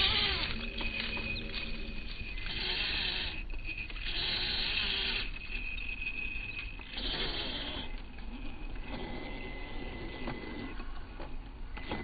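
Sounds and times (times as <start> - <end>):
high electric motor whine: 0.0 - 12.0
wheels spinning in sand: 0.0 - 12.0.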